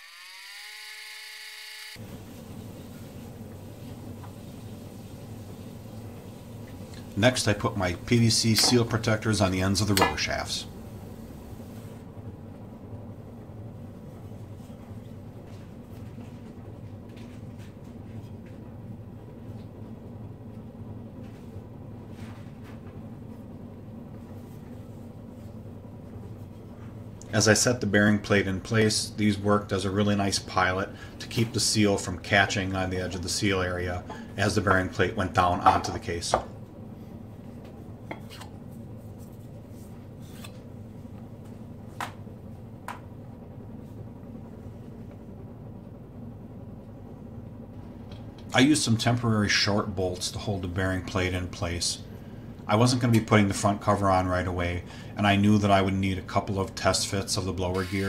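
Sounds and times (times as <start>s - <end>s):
steady low hum: 1.9s - 58.0s.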